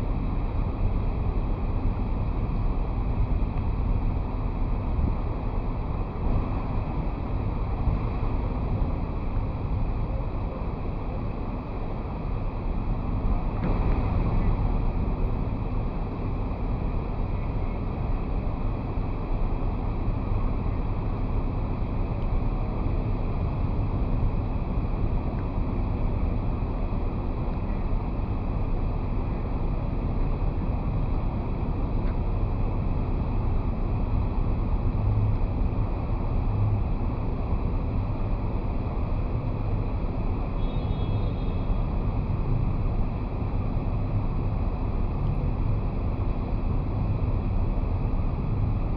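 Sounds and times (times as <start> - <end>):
road rumble from car: 0.0 - 48.9.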